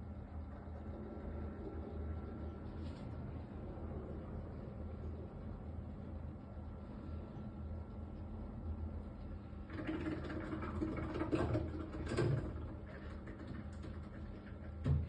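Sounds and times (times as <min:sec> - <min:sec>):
gas boiler humming: 0:00.0 - 0:15.0.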